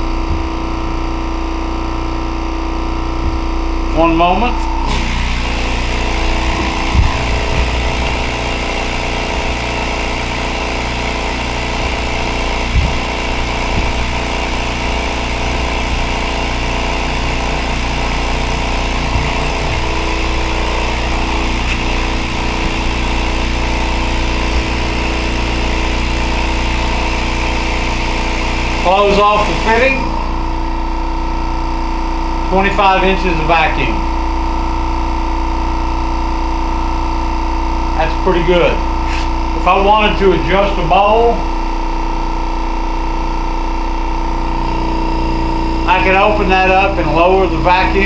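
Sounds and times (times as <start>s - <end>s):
vacuum pump humming: 0.0s - 48.0s.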